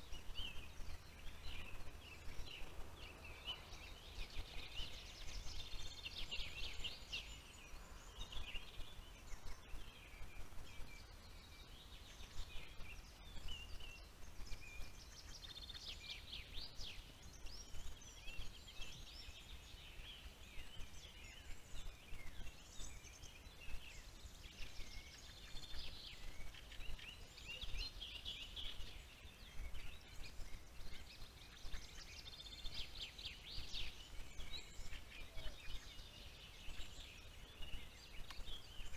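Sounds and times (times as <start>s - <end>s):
fast trilled birdsong: 0.0s - 38.9s
songbirds singing: 0.0s - 38.9s.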